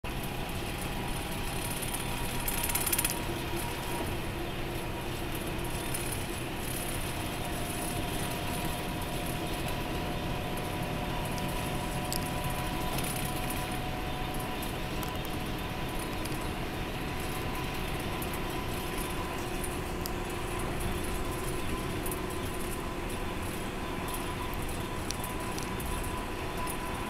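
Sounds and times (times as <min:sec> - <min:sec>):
engine and tyre drone: 0:00.1 - 0:27.0
faint steady whine: 0:00.1 - 0:27.0.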